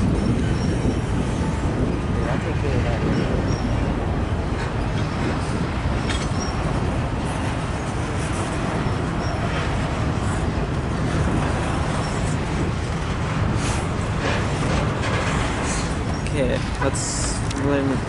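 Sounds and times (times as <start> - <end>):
freight train cars rolling past: 0.0 - 18.0.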